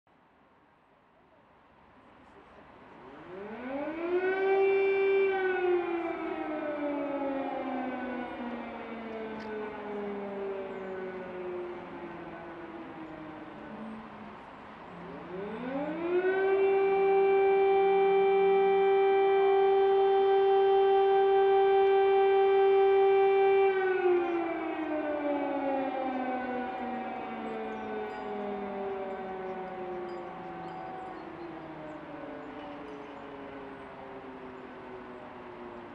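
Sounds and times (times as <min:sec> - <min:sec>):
air raid siren wailing: 0:02.2 - 0:35.9.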